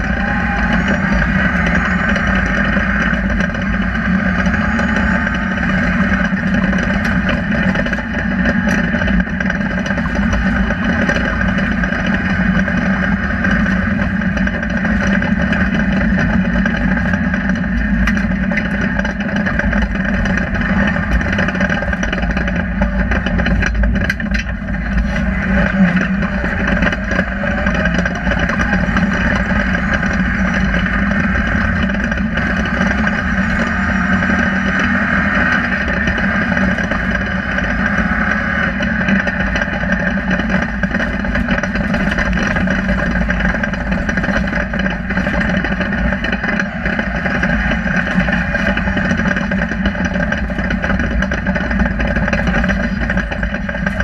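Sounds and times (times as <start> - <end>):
car engine running hard: 0.0 - 54.0
road noise: 0.0 - 54.0.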